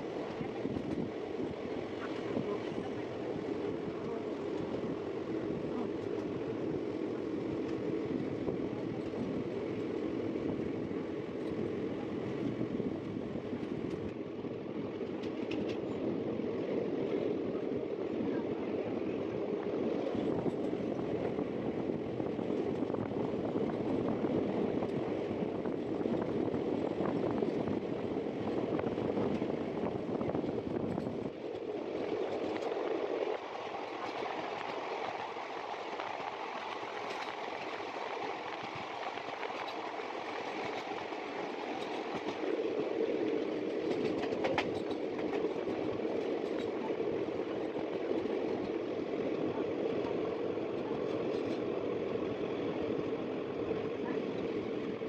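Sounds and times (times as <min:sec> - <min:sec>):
train coach rumbling: 0:00.0 - 0:55.0
train wheels on rail: 0:00.0 - 0:55.0.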